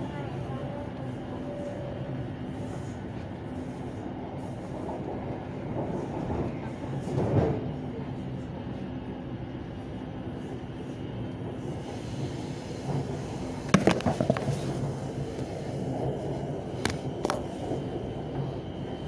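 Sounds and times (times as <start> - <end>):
train carriage rumbling: 0.0 - 19.0.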